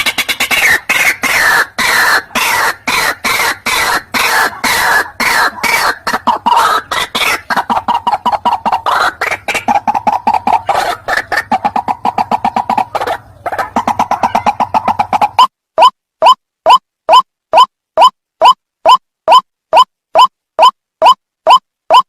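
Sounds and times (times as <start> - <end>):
bird harsh clucking calls: 0.0 - 22.0.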